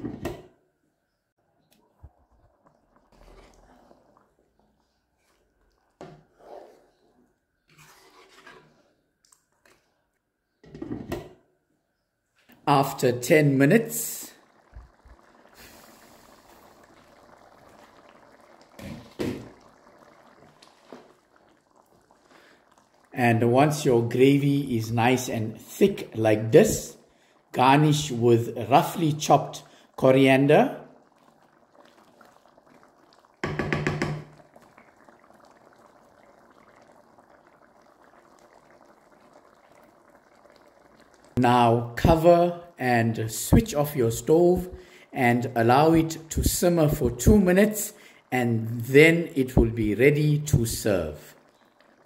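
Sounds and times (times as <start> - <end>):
curry simmering and bubbling: 0.0 - 52.0.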